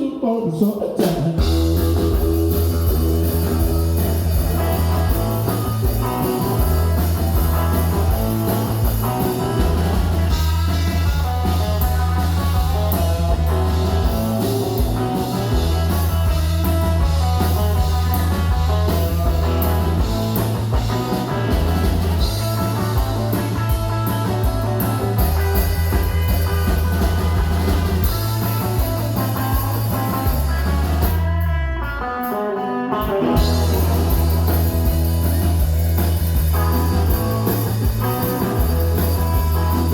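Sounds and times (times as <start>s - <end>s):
electric guitar: 0.0s - 39.9s
bass and drum kit: 0.5s - 39.9s.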